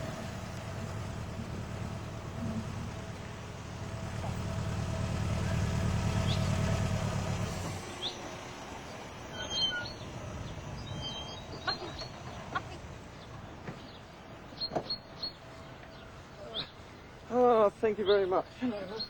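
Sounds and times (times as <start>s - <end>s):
vehicle engine running: 0.0s - 16.4s
birds chirping: 0.0s - 19.0s.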